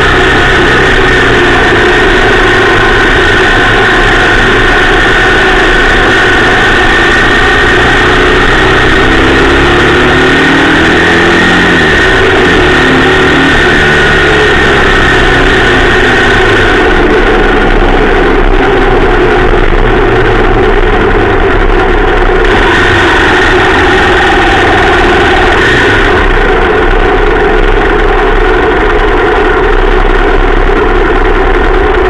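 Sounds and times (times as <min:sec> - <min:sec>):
motorcycle engine running: 0:00.0 - 0:32.0
rush of air noise: 0:00.0 - 0:32.0.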